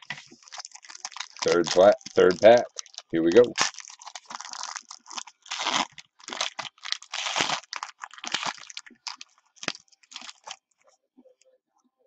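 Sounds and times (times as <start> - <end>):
foil pack crinkling and ripping: 0.0 - 10.8.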